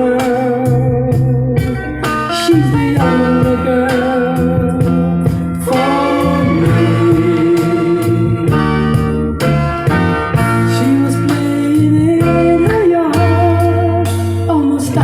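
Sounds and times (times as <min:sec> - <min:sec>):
guitar: 0:00.0 - 0:15.0
soul song with wavering vocal: 0:00.0 - 0:15.0
steady bass: 0:00.0 - 0:15.0.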